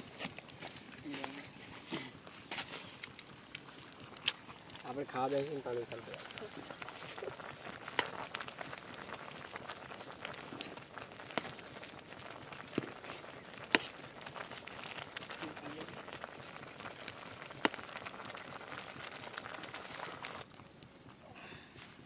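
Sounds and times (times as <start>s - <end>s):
noodles boiling with crackle: 0.0s - 22.0s.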